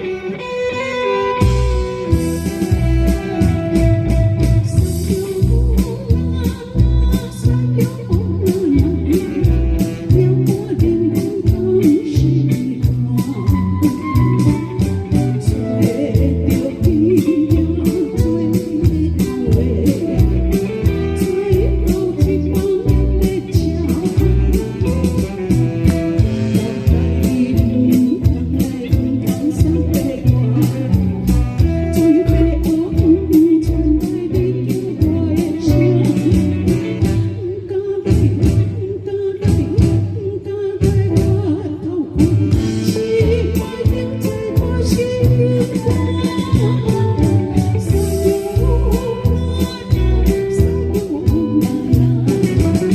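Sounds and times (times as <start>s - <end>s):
guitar: 0.0s - 52.9s
person singing: 0.0s - 52.9s.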